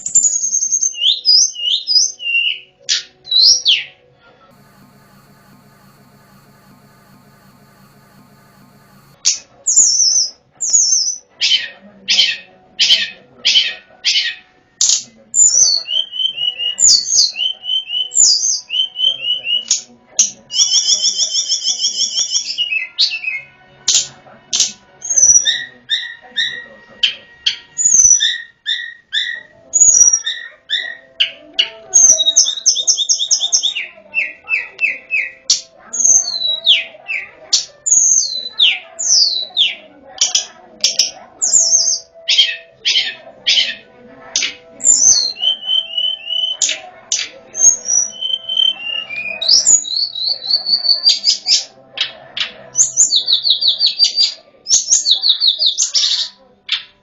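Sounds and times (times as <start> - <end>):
songbird whistling and trilling: 0.0 - 4.0, 9.7 - 19.9, 20.5 - 23.5, 25.0 - 37.2, 37.9 - 43.8, 44.4 - 51.7, 52.8 - 56.9.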